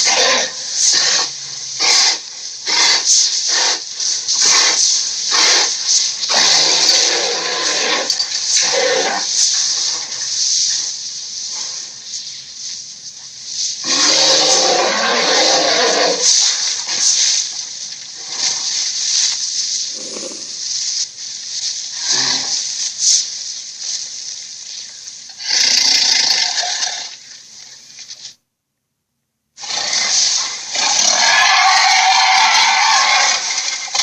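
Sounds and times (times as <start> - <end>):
harsh breathy hissing creature vocals: 0.0 - 12.4, 13.6 - 24.0, 25.4 - 27.2, 29.6 - 34.0.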